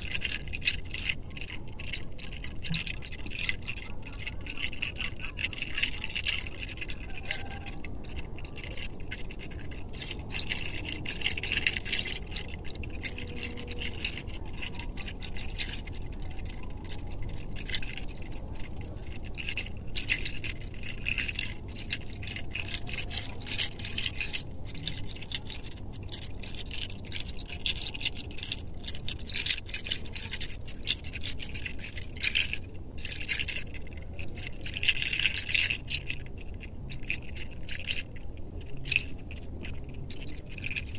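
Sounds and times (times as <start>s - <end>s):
fingers scratching through hair: 0.0s - 36.2s.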